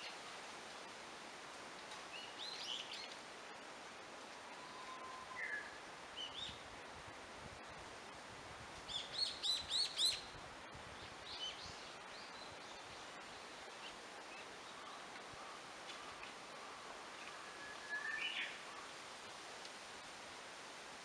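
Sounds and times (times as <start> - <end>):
steady background hiss: 0.0 - 21.0
songbirds chirping: 1.6 - 6.9, 8.8 - 21.0.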